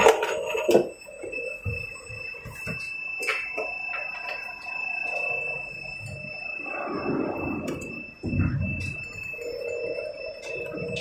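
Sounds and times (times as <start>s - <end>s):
steady high-pitched tone: 0.0s - 11.0s.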